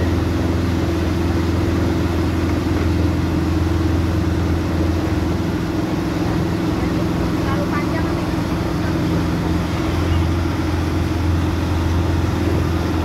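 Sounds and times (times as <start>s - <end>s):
outboard motor running: 0.0s - 13.0s
water churning: 0.0s - 13.0s.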